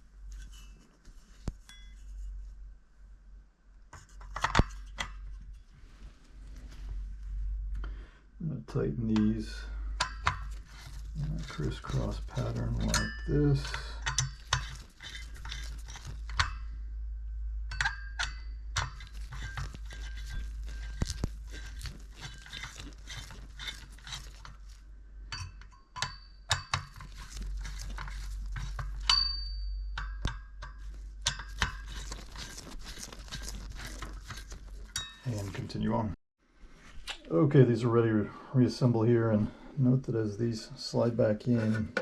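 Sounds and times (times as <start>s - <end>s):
steady low hum: 0.0s - 36.2s.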